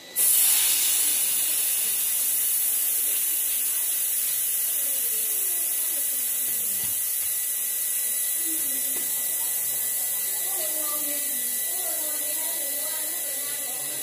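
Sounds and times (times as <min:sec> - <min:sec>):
air hissing from tire valve: 0:00.0 - 0:14.0.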